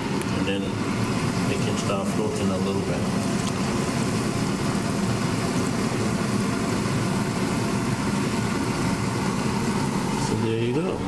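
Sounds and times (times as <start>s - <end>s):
dumplings sizzling in oil: 0.0s - 11.0s.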